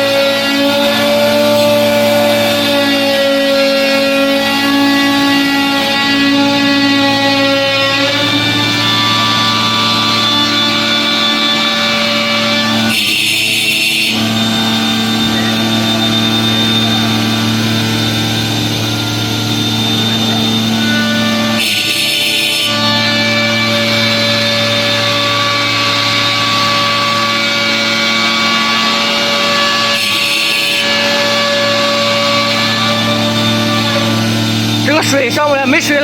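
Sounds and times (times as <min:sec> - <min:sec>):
stone cutting machine humming: 0:00.0 - 0:36.0.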